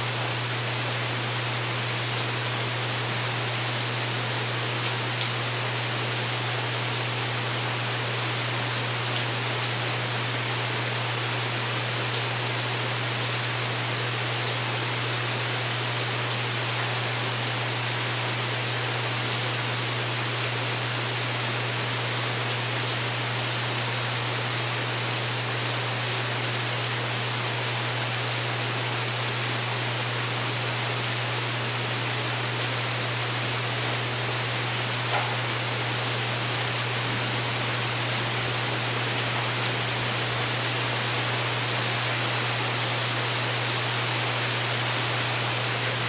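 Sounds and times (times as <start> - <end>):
rain pattering on a roof: 0.1 - 46.0.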